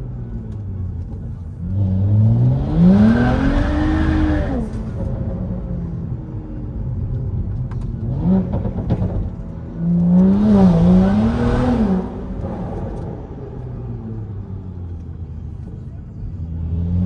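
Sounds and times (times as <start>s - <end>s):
car engine revving: 1.2s - 17.0s.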